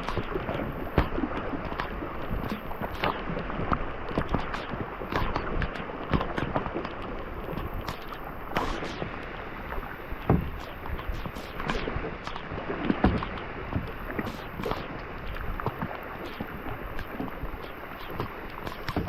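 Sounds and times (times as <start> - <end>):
clicks and knocks on hull: 0.0 - 9.1, 9.8 - 19.0
water sloshing around kayak: 0.0 - 19.0.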